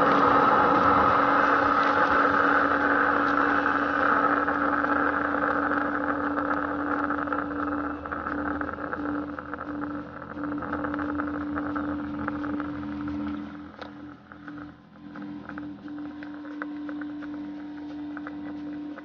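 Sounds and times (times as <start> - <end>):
suction machine humming: 0.0 - 19.0.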